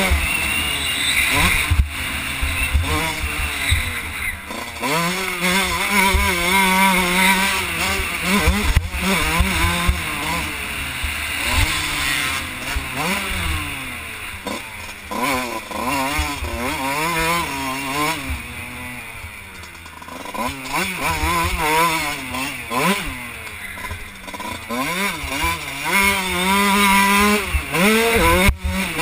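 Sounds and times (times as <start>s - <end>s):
motocross engine revving: 0.0s - 29.0s.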